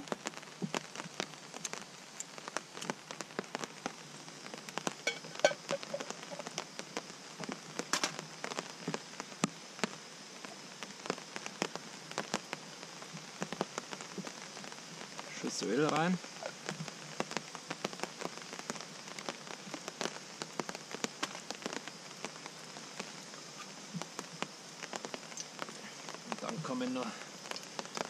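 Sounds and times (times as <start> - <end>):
raindrops tapping sharply: 0.0 - 10.1, 10.8 - 28.0
steady rain: 0.0 - 28.0.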